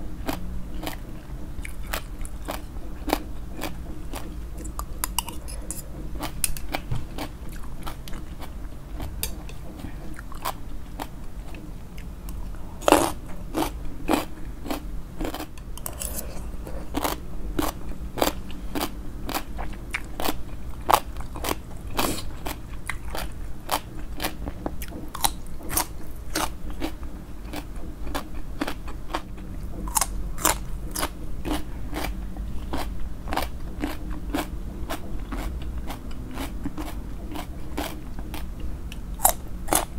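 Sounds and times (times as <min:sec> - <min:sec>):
chewing crunchy salad: 0:00.1 - 0:39.9.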